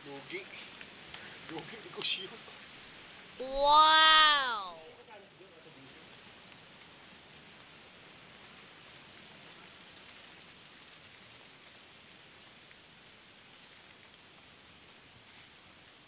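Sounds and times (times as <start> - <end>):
forest ambience hiss: 0.0 - 3.4, 4.8 - 16.0.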